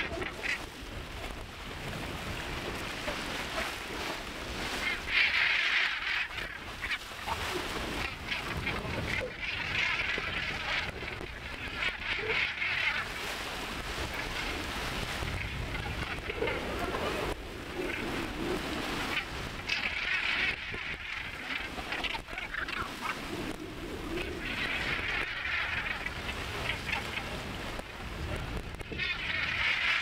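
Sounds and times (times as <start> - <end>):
seabirds calling: 0.0 - 27.7, 28.9 - 30.0
choppy water washing: 0.0 - 30.0.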